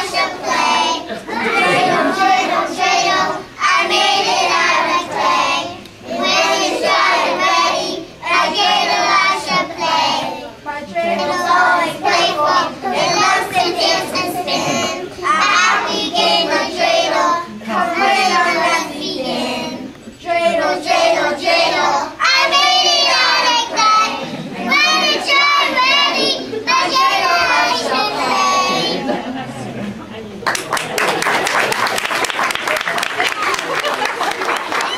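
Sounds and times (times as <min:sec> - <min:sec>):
children singing: 0:00.0 - 0:29.2.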